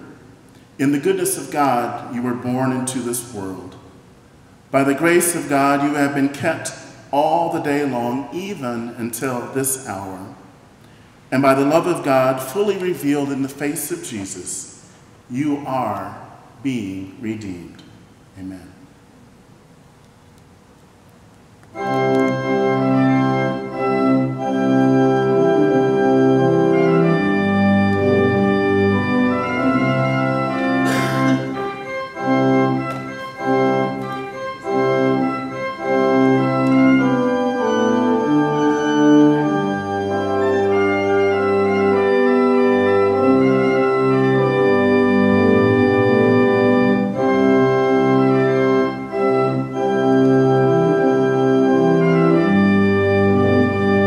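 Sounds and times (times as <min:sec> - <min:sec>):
church organ playing chords: 0:00.0 - 0:19.0, 0:21.7 - 0:54.0.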